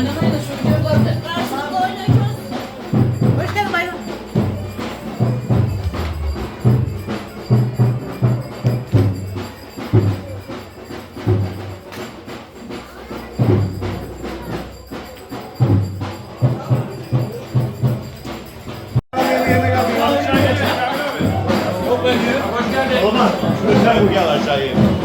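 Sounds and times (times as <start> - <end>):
deep accented drum beats: 0.0 - 25.0.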